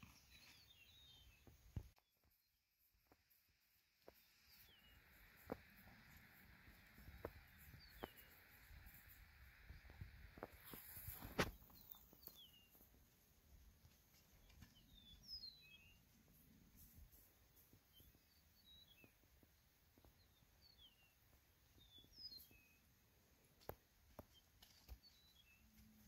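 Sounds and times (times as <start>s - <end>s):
songbird chirps: 0.0s - 26.0s.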